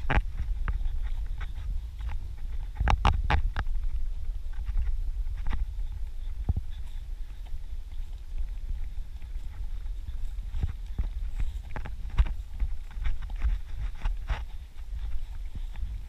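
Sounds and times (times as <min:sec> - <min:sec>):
footsteps on dirt path: 0:00.0 - 0:16.0
wind buffeting microphone: 0:00.0 - 0:16.0.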